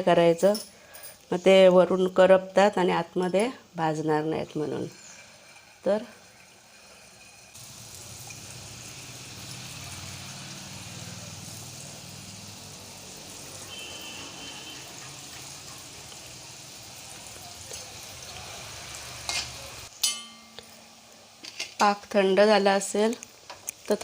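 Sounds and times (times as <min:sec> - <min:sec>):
dough frying in oil: 0:00.9 - 0:24.0.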